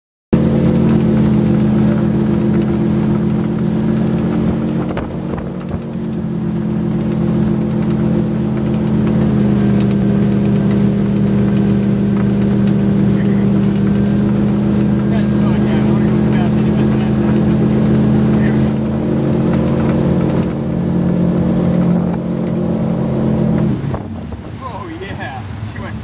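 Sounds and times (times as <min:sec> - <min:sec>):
motorboat engine running: 0:00.3 - 0:26.0.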